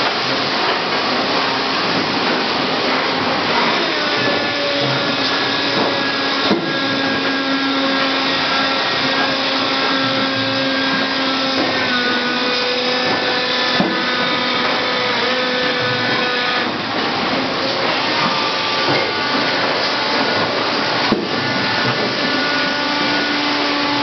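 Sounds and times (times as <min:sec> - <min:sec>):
factory machinery whirring: 0:00.0 - 0:24.0
steady machine tones: 0:00.0 - 0:24.0
sharp knocks: 0:04.2 - 0:24.0.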